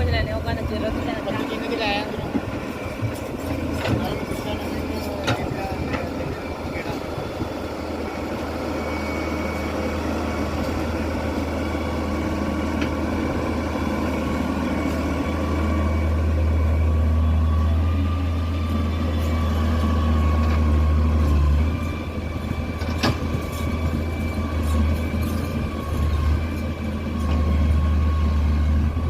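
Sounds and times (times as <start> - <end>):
heavy machine engine running: 0.0 - 29.0.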